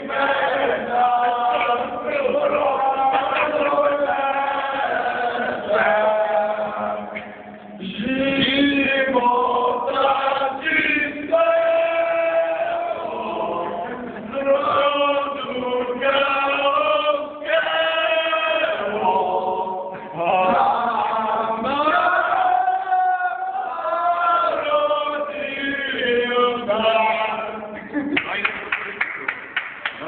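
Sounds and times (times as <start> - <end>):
men chanting: 0.0 - 27.9.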